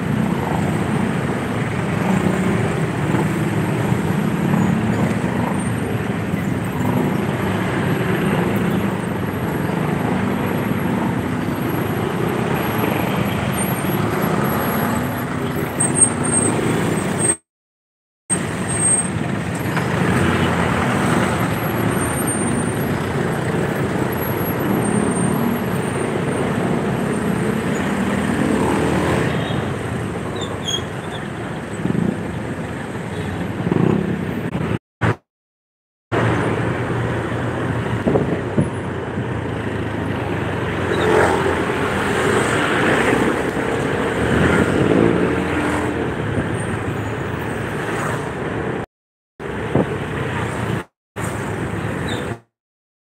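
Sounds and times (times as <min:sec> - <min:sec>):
slow road traffic: 0:00.0 - 0:17.5, 0:18.3 - 0:35.3, 0:36.1 - 0:52.6.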